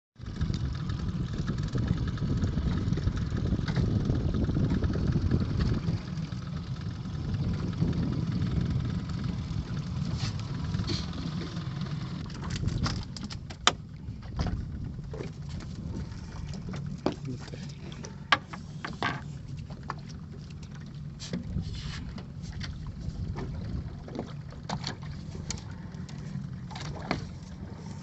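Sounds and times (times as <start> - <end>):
motor rumbling: 0.2 - 28.0.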